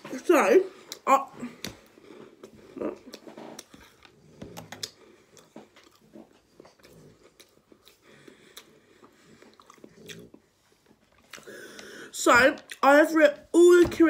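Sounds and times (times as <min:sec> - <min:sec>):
chewing and crunching crisp: 0:01.6 - 0:13.0.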